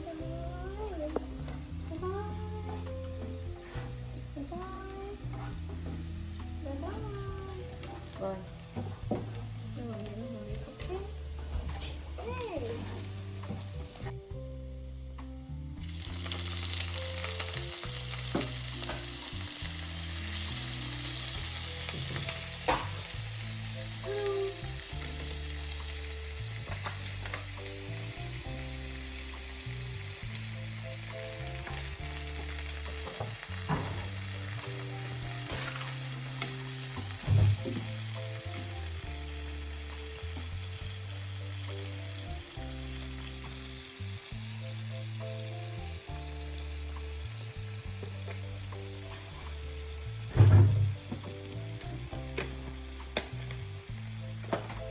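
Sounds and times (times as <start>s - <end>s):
background music: 0.0s - 54.9s
food sizzling in a hot pan: 0.0s - 54.9s.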